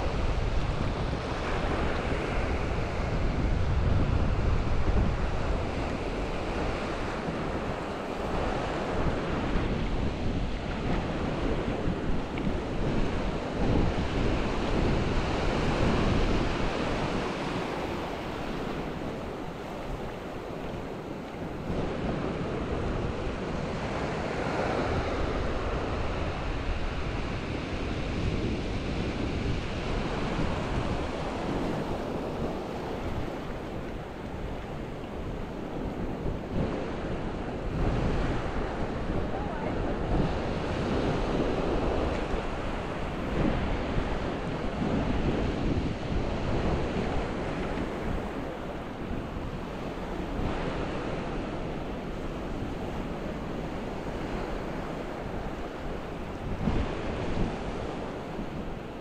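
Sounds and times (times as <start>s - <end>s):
ocean waves breaking on beach: 0.0s - 59.0s
wind buffeting microphone: 0.0s - 59.0s.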